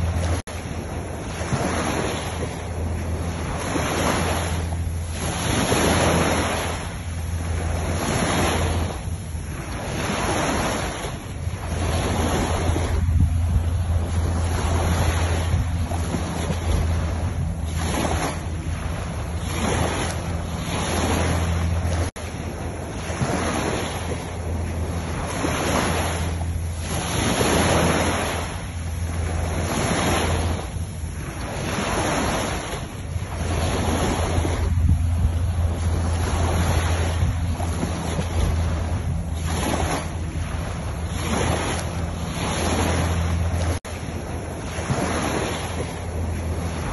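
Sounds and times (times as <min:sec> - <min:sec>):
sea waves washing onto beach: 0:00.0 - 0:46.9
steady low hum: 0:00.0 - 0:46.9.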